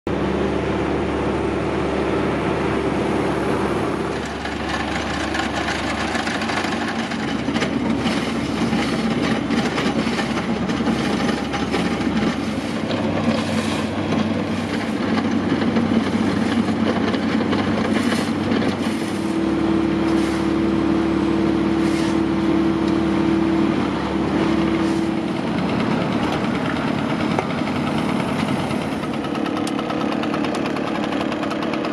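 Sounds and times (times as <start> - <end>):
road repair machinery engines: 0.1 - 31.9.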